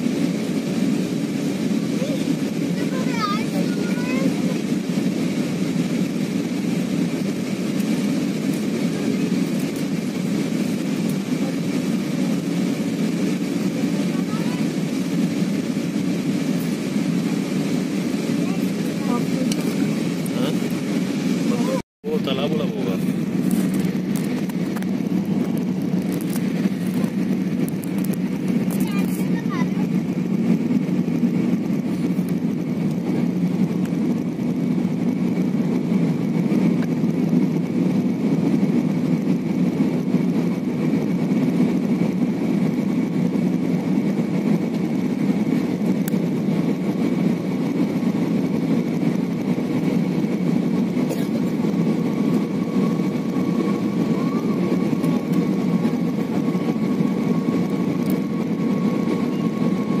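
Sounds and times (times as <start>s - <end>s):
jet engine drone in cabin: 0.0s - 60.0s
thin steady whine: 0.0s - 60.0s.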